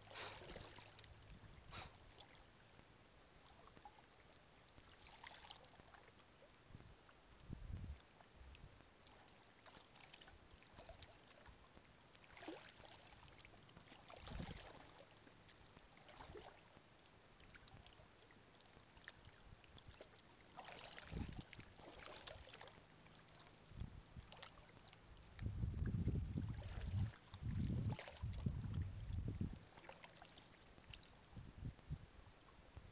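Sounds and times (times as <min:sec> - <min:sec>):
seawater sloshing around wading legs: 0:00.0 - 0:02.7, 0:03.4 - 0:06.2, 0:08.9 - 0:16.8, 0:17.4 - 0:31.2.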